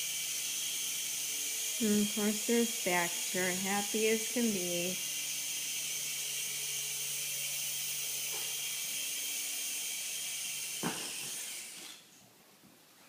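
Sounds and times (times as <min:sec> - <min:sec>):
toy helicopter motor whirring: 0:00.0 - 0:12.1.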